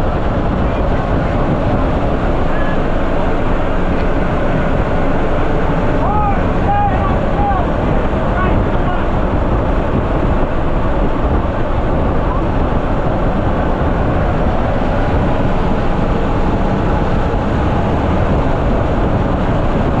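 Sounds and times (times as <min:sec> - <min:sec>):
rush of wind: 0:00.0 - 0:20.0
turboprop engine noise: 0:00.0 - 0:20.0.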